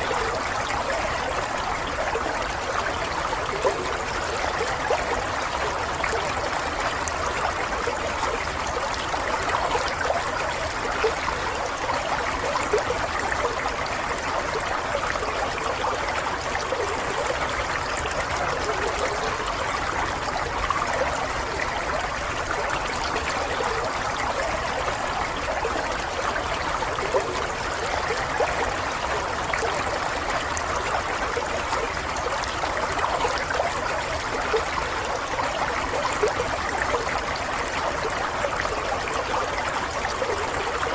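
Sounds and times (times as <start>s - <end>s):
water trickling over stones: 0.0s - 40.9s.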